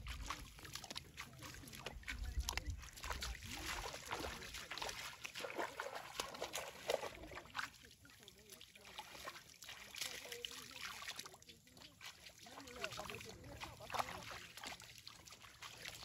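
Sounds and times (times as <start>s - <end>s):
wading through water and mud: 0.0s - 16.0s.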